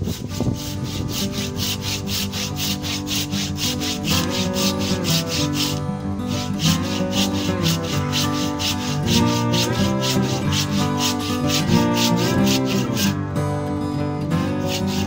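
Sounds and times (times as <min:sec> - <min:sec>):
hand saw cutting log: 0:00.0 - 0:13.2, 0:14.4 - 0:15.0
background music: 0:00.6 - 0:15.0.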